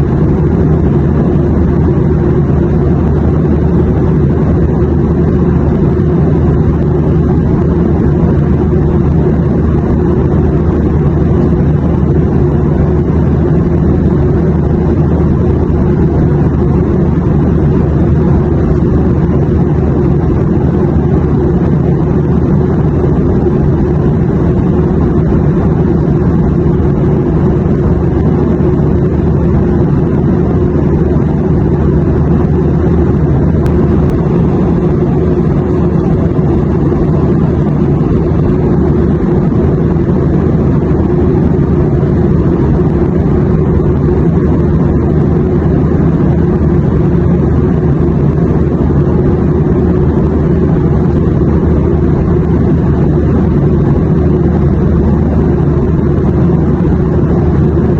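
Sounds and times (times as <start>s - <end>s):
airplane drone: 0.0s - 57.9s.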